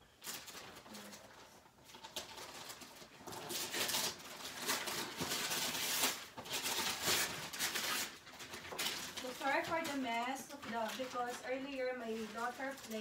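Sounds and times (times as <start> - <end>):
wrapping paper tearing and crumpling: 0.0 - 13.0.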